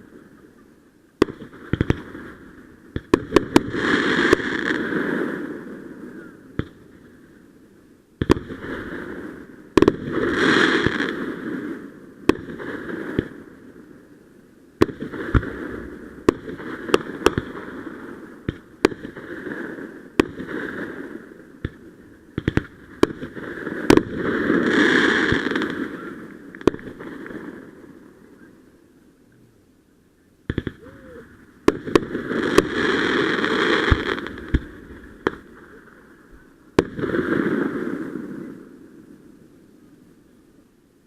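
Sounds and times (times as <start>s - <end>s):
fireworks banging and popping: 0.0s - 5.6s, 6.5s - 7.2s, 8.2s - 13.5s, 14.8s - 28.0s, 30.4s - 38.6s
fireworks crackling: 0.0s - 29.3s, 30.4s - 40.0s.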